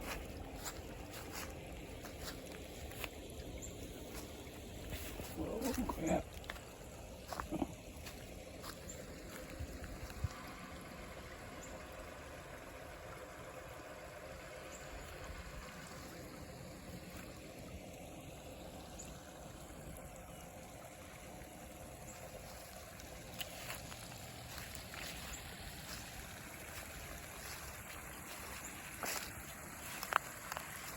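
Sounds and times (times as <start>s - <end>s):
water trickling: 0.0s - 30.9s.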